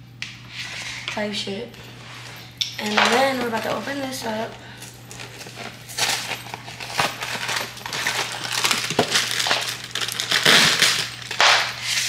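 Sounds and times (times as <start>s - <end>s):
plastic bag crinkling: 2.2s - 12.0s.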